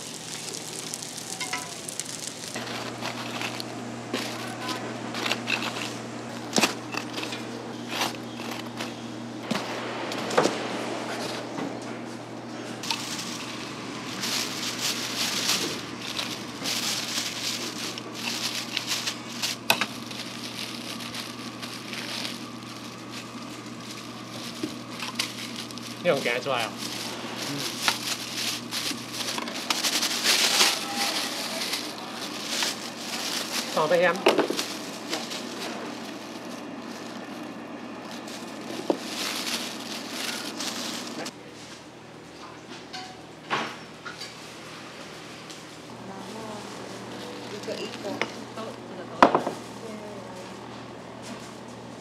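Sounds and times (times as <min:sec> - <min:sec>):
plastic bags rustling: 0:00.0 - 0:09.8, 0:12.7 - 0:41.4, 0:44.4 - 0:52.0
steady background hum: 0:00.0 - 0:52.0.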